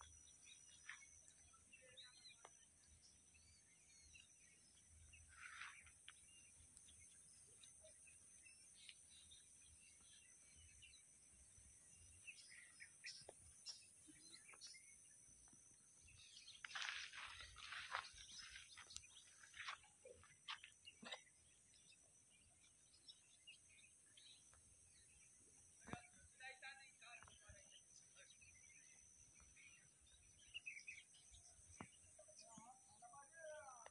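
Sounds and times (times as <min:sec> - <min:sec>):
faint bird chirps: 0:00.0 - 0:33.9.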